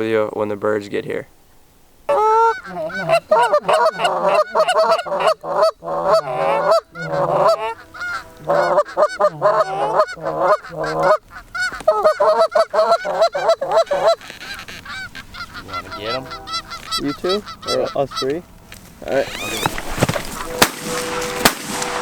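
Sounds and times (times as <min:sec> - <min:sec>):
geese honking and clucking: 0:02.1 - 0:22.0.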